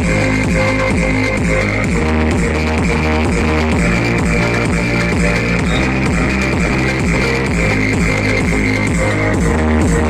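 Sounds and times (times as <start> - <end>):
electronic dance music heavy bass: 0.0 - 10.0.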